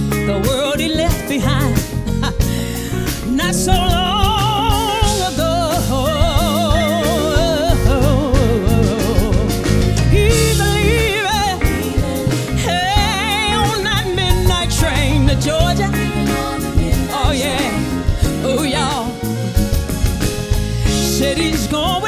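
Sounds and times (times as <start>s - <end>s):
woman singing soul: 0.0s - 20.0s, 20.7s - 22.0s
band with drums and guitar: 0.0s - 22.0s.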